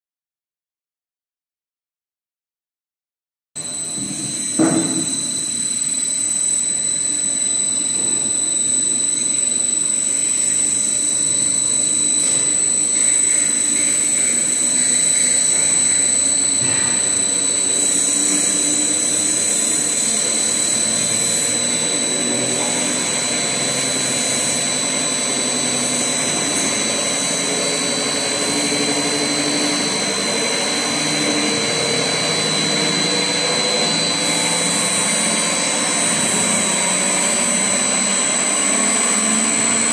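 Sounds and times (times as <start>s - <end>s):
paddle mixer churning powder: 3.6s - 39.9s
thin high whine: 3.6s - 39.9s.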